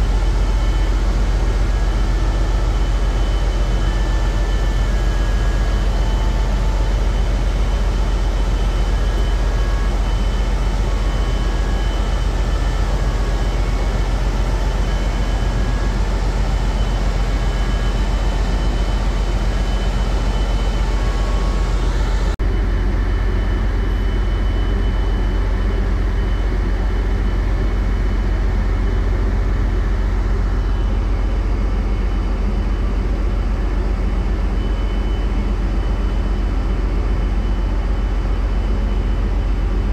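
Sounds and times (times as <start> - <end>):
diesel machinery droning: 0.0 - 39.9.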